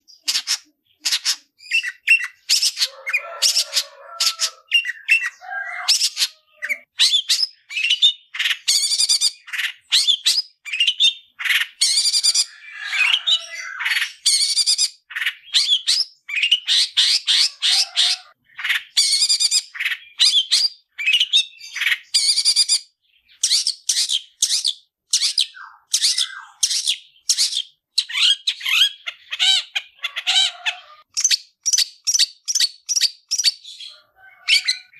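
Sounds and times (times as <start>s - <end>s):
birds chattering calls: 0.0s - 34.9s.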